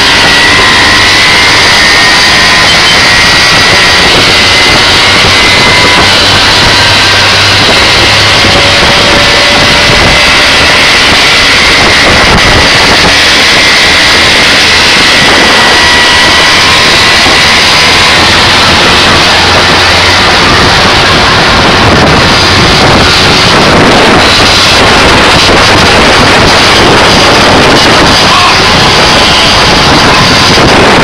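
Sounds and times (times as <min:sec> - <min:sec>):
small engine droning: 0:00.0 - 0:31.0.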